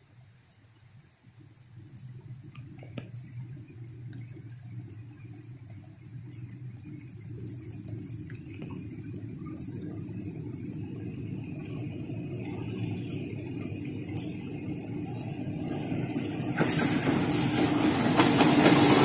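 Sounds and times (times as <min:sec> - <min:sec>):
diesel locomotive engine drone: 0:00.1 - 0:19.0.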